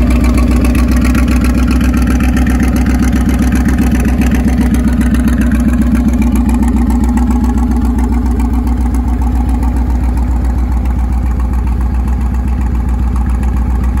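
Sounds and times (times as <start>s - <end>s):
engine idling with low pulse: 0.0s - 14.0s.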